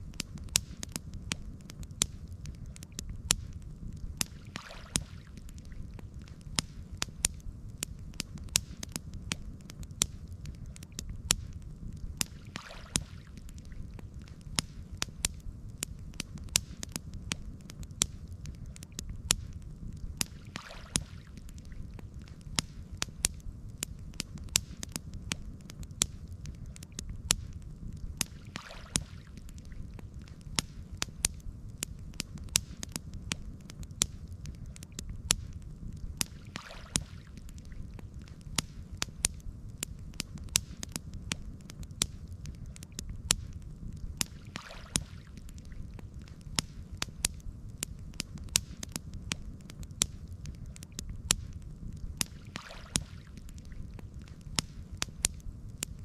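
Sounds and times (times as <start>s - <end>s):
campfire crackling and popping: 0.0s - 56.0s
low rumble of burning wood: 0.0s - 56.0s.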